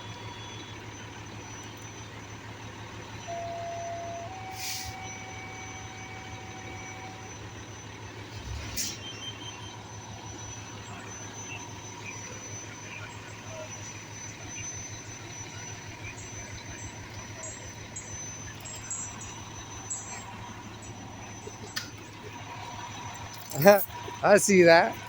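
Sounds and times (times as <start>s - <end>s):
large vehicle idling: 0.0s - 25.0s.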